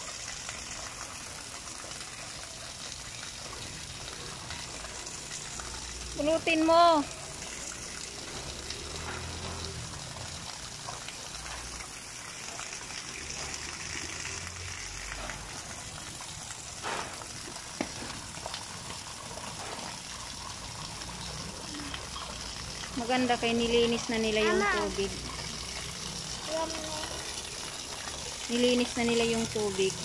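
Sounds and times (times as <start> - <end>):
waterfall pouring into pond: 0.0 - 30.0.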